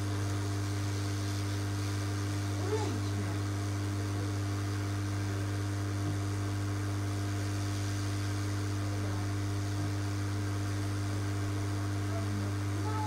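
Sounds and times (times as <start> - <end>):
light hiss: 0.0 - 13.0
low electrical hum: 0.0 - 13.0.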